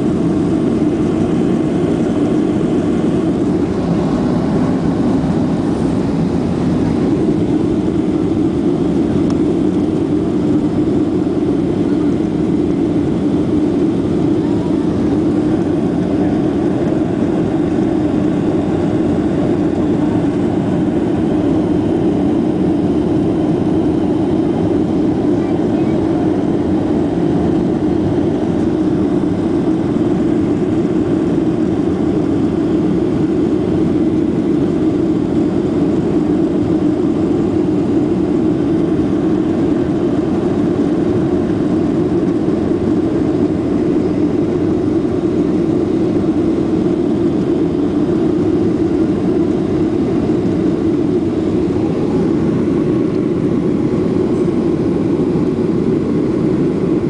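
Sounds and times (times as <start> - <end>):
jet airliner cabin drone: 0.0 - 57.0.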